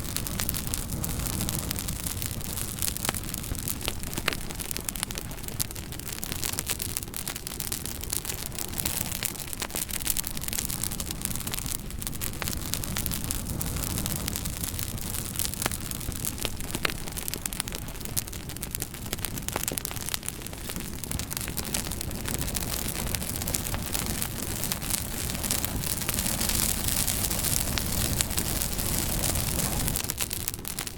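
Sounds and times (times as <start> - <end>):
fire crackles and pops: 0.0 - 30.9
wood fire burning: 0.0 - 30.9.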